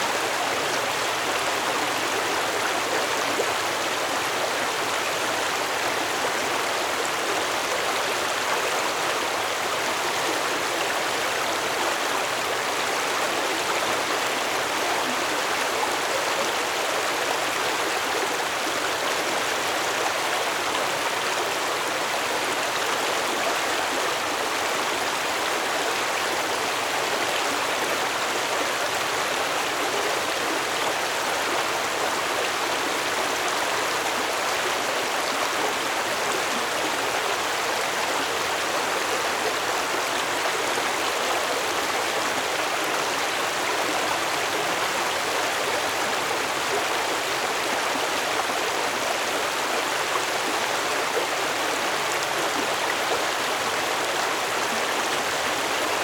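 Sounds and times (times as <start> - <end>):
stream water flowing over stones: 0.0 - 56.0.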